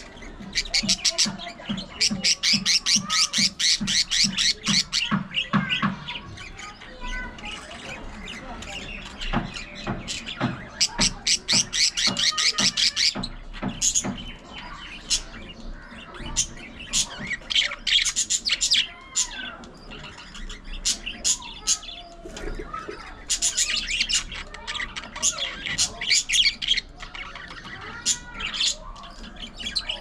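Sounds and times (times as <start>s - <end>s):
budgerigars chattering: 0.0s - 30.0s.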